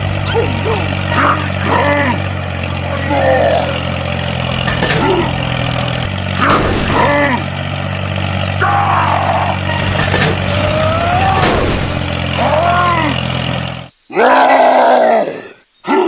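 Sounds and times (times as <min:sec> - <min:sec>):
motor drone: 0:00.0 - 0:13.9.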